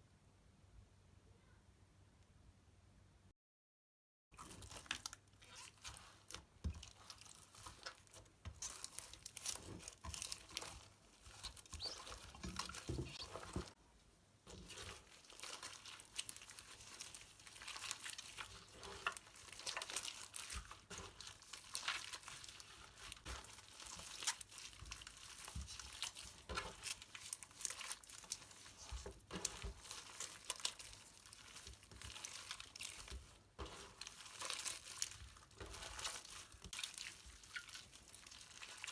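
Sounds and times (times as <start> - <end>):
slime squishing and crackling: 4.4 - 13.8, 14.5 - 38.9.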